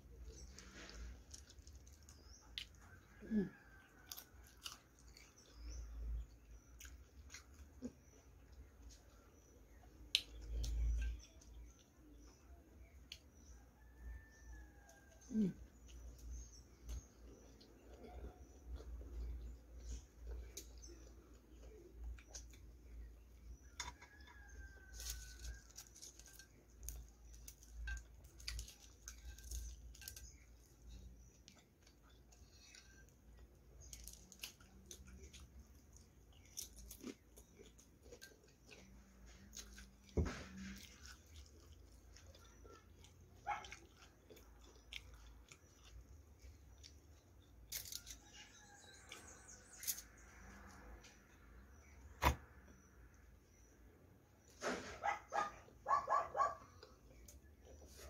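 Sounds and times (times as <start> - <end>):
chewing and crunching chips: 0.0 - 52.0, 52.8 - 58.0.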